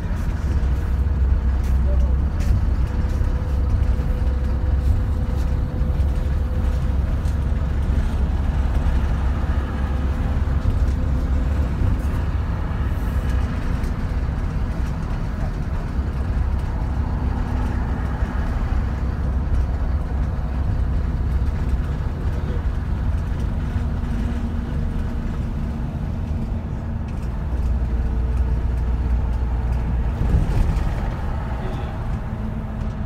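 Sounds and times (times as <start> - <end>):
large vehicle engine and tyre rumble: 0.0 - 33.0.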